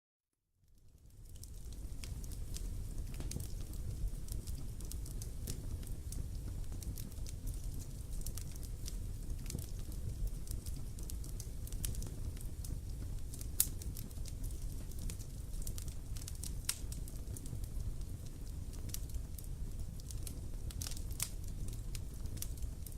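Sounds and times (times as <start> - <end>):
wood fire crackling: 0.6 - 22.9.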